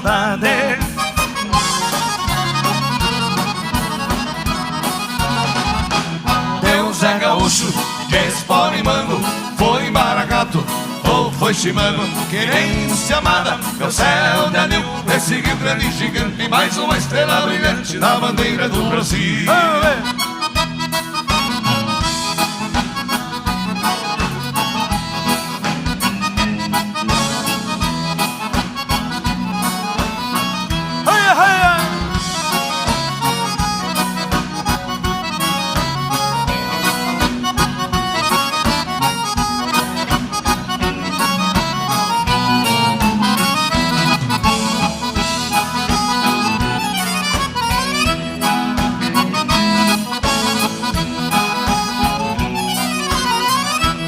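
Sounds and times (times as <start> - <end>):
accordion dance music: 0.0 - 54.0
steady bass: 0.0 - 54.0.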